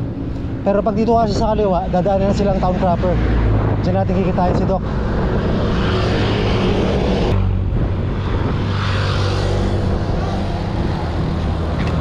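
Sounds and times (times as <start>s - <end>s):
motor traffic drone: 0.0s - 12.0s
wind on microphone: 0.0s - 12.0s.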